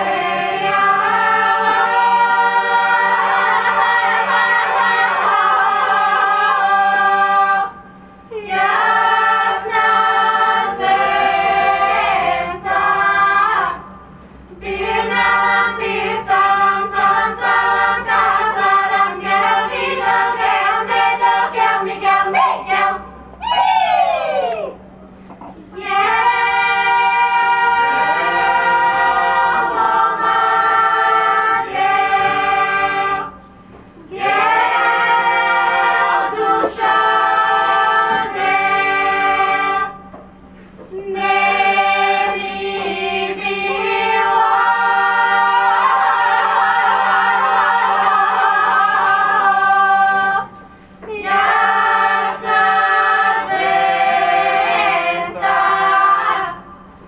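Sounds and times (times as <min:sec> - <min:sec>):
mixed choir singing a cappella: 0:00.0 - 0:23.4, 0:25.7 - 0:57.0.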